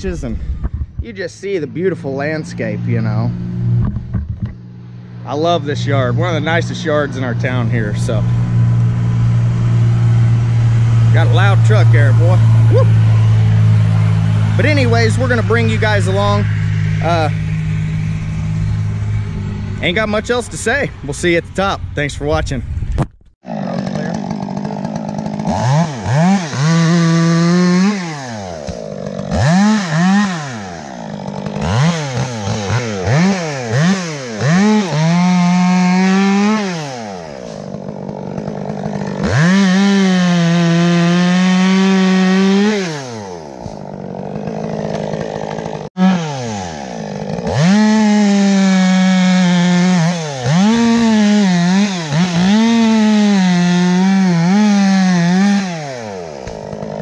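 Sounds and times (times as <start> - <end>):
chainsaw revving and cutting wood: 1.1 - 20.2, 23.4 - 57.0.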